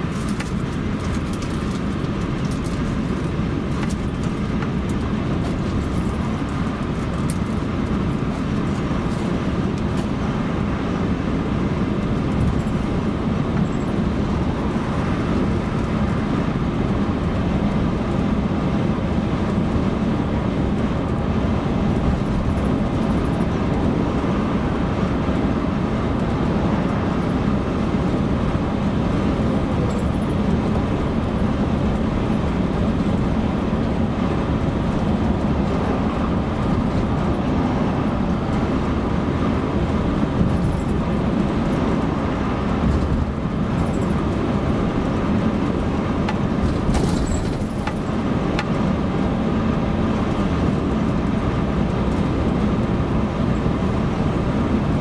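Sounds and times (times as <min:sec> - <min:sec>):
car driving on motorway: 0:00.0 - 0:55.0.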